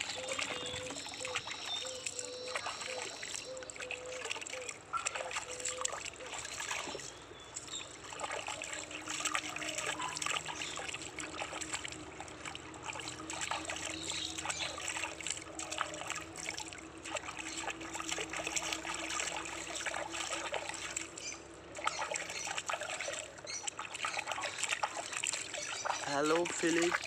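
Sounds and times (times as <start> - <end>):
water splashing in metal basin: 0.0 - 27.0.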